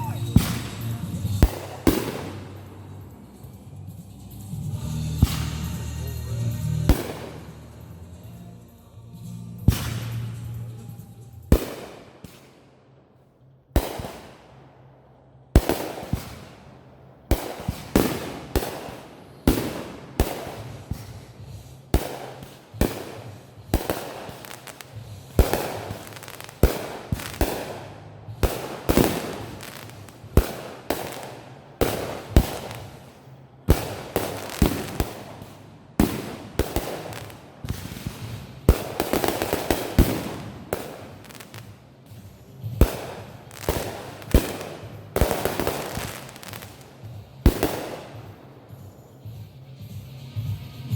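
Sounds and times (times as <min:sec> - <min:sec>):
fireworks banging: 0:00.0 - 0:08.3, 0:09.6 - 0:12.8, 0:13.8 - 0:14.7, 0:15.6 - 0:49.4.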